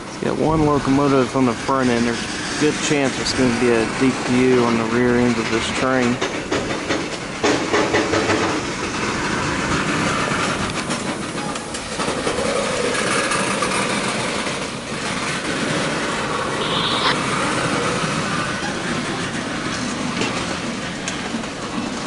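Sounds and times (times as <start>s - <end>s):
train wheels clicking over rail joints: 0.0s - 16.6s, 17.2s - 22.0s
train rumble and rattle: 0.0s - 22.0s.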